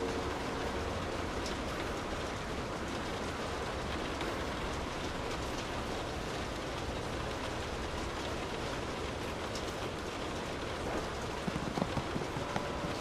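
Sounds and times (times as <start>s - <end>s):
steady rain on a street: 0.0s - 13.0s.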